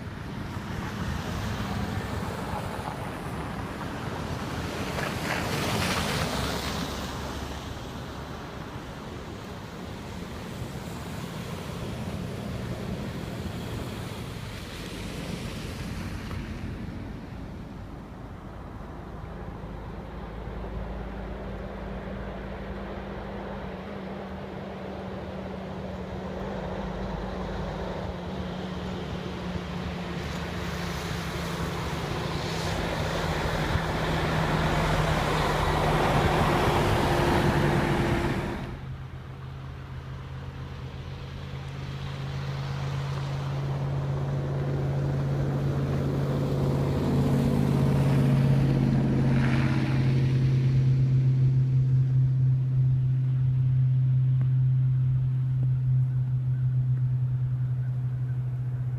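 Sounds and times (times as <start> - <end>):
road noise: 0.0 - 58.9
vehicle engine hum: 0.0 - 58.9.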